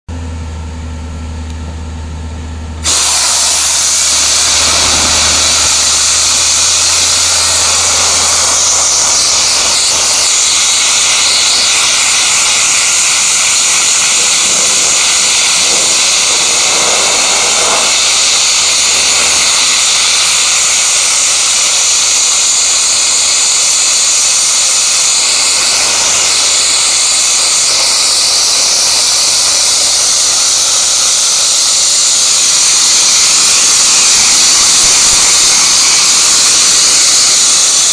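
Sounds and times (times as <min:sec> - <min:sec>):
blasting nozzle hissing: 0:02.8 - 0:37.9.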